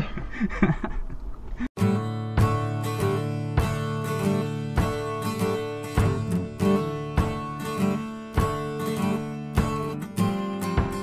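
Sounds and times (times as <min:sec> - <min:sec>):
acoustic guitar strumming: 0:01.8 - 0:11.0.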